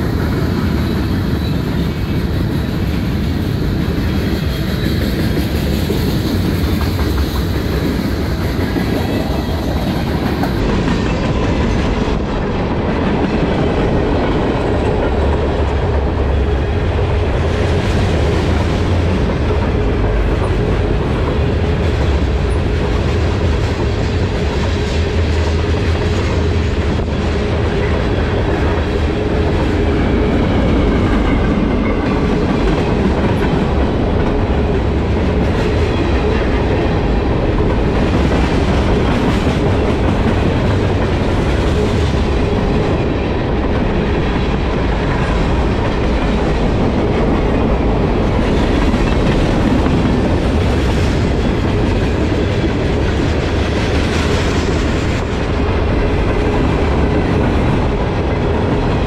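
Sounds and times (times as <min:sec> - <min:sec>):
steel wheels rumbling on rails: 0:00.0 - 0:59.0.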